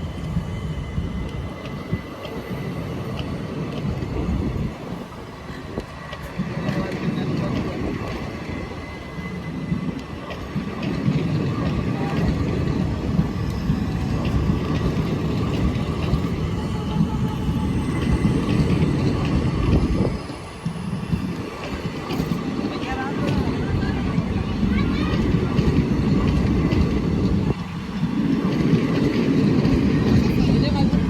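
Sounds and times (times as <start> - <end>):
train wheels rumbling on rails: 0.0 - 31.0
faint rail clacks: 1.2 - 31.0.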